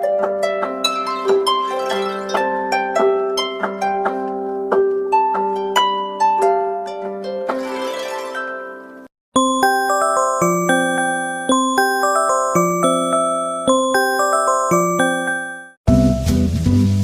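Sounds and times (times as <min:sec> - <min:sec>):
harp-like plucked ringtone melody: 0:00.4 - 0:04.0, 0:05.6 - 0:15.8.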